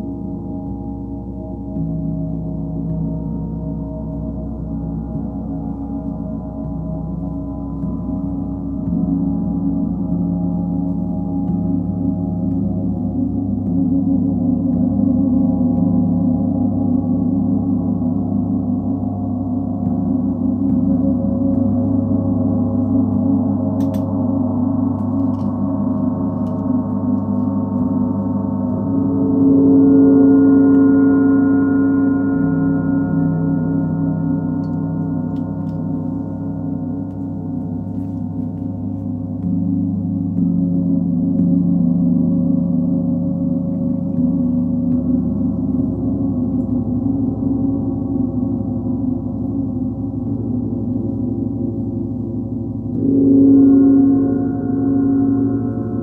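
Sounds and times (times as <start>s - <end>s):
deep gongs ringing: 0.0s - 56.0s.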